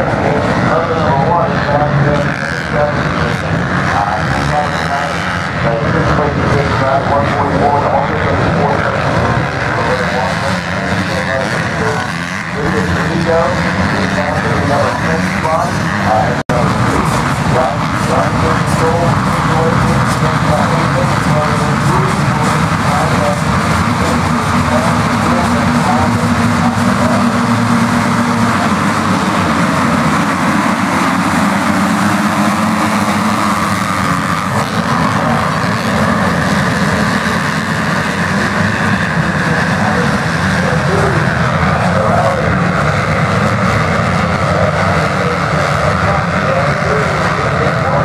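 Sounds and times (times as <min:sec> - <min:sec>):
motocross bikes revving: 0:00.0 - 0:48.0.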